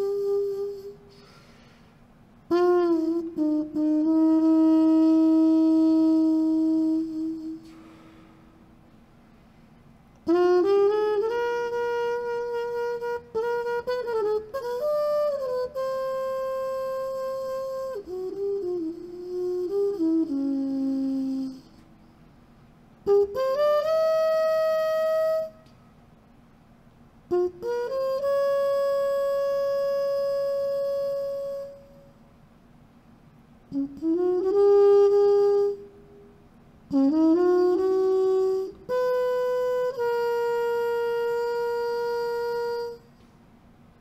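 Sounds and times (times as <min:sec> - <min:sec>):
solo trumpet playing: 0:00.0 - 0:01.8, 0:02.5 - 0:08.3, 0:10.1 - 0:21.9, 0:23.0 - 0:25.8, 0:27.3 - 0:32.2, 0:33.7 - 0:43.2.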